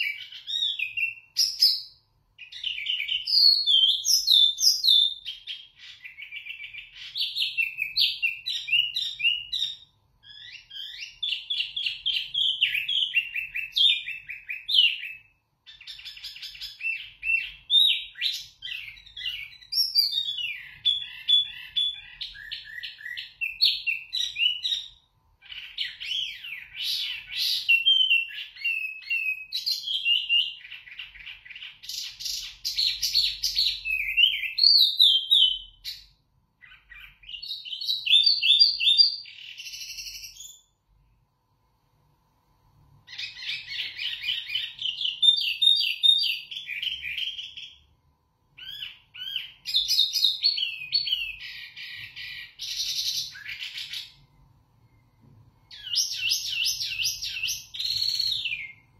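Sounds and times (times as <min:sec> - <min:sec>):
songbird singing whistled notes: 0:00.0 - 0:40.8, 0:43.0 - 0:47.9, 0:48.5 - 0:58.9.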